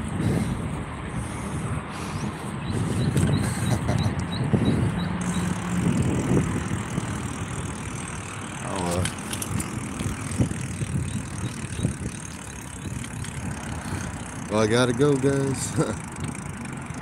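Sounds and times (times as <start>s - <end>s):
wind rumbling on microphone: 0.0s - 14.4s
bicycle tyre road noise: 0.0s - 17.0s.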